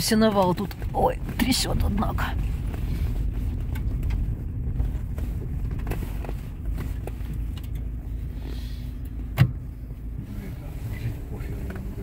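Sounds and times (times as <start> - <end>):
light rattles and knocks: 0.0 - 10.2
car cabin rumble: 0.0 - 12.0.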